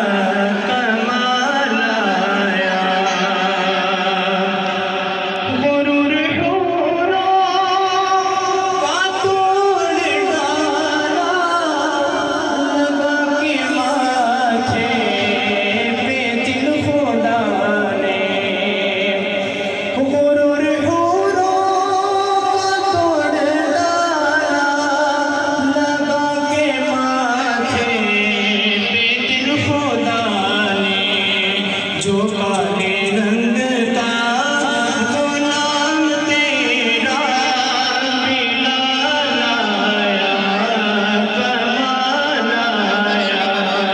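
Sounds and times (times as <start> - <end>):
man singing devotional song: 0.0 - 43.9.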